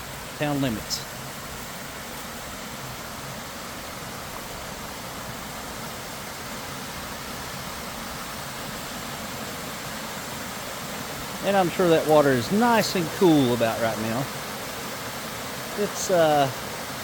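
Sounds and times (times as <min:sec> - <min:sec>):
waterfall pouring into pool: 0:00.0 - 0:17.0.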